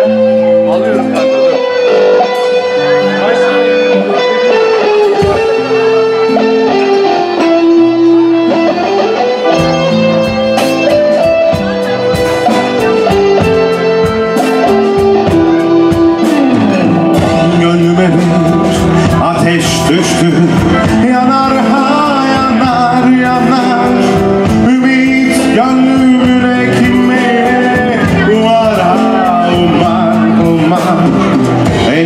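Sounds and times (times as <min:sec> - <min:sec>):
live band playing: 0:00.0 - 0:32.0
person singing: 0:00.0 - 0:32.0.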